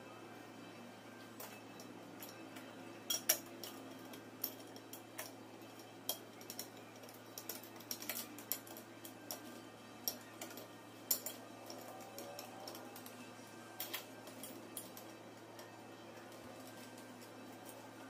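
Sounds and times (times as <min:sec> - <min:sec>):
metal parts and tools clinking: 0:01.4 - 0:18.0.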